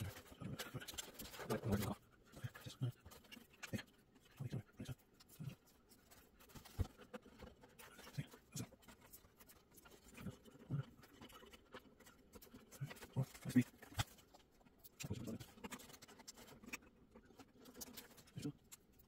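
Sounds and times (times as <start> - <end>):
fingers tapping and scraping cables: 0.0 - 19.0.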